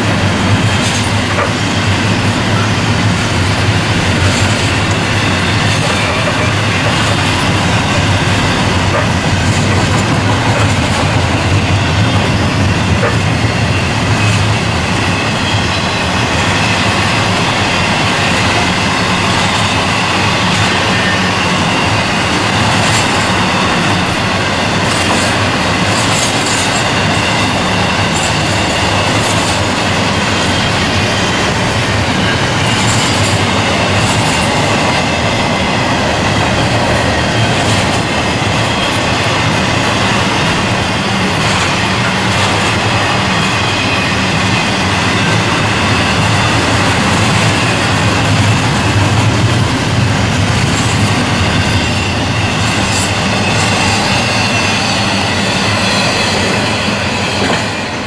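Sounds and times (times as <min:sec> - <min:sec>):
freight train wheels rumbling: 0:00.0 - 0:58.0
wheel squeals: 0:00.6 - 0:58.0.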